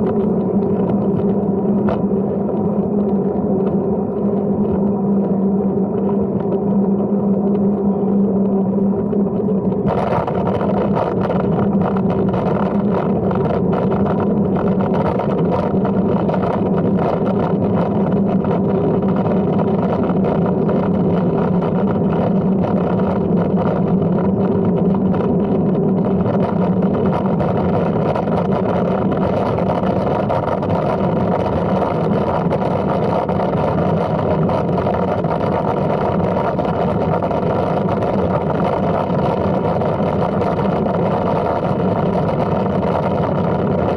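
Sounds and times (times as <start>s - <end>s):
bicycle tyre noise: 0.0s - 43.9s
wind rumble: 0.0s - 43.9s.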